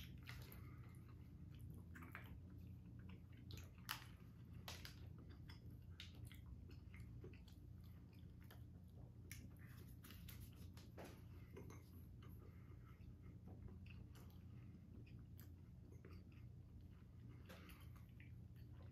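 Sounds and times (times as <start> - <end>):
people chewing: 0.0 - 18.9.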